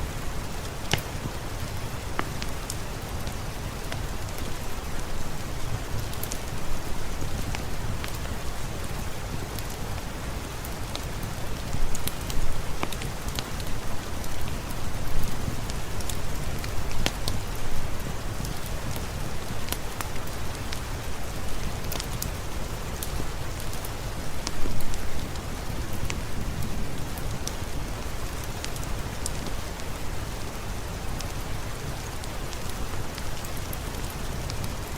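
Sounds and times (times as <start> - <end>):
fireplace crackling: 0.0 - 34.9
rain hissing: 0.0 - 34.9.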